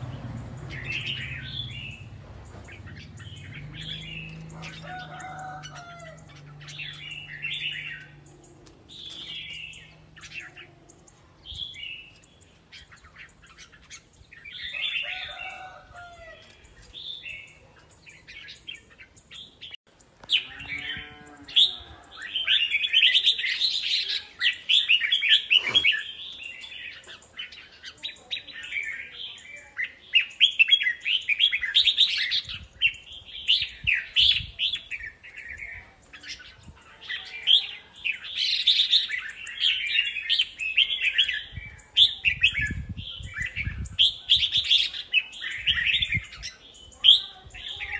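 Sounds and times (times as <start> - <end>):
bulbuls singing: 0.0 - 47.9.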